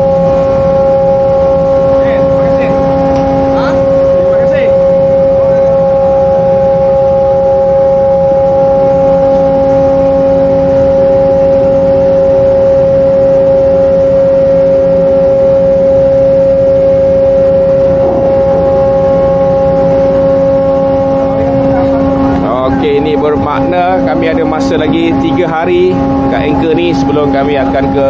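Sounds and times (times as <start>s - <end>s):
ship machinery humming: 0.0s - 28.0s.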